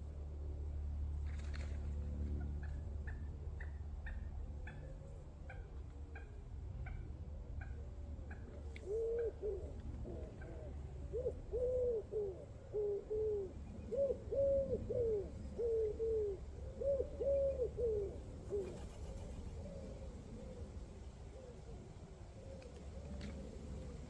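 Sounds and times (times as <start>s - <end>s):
pigeon cooing: 2.4s - 24.0s.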